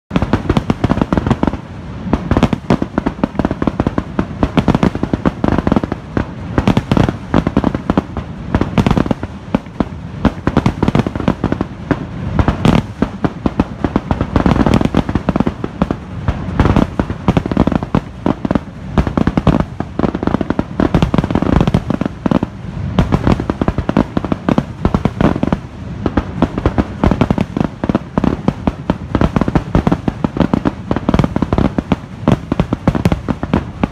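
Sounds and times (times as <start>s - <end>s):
fireworks booming and crackling: 0.1s - 33.9s.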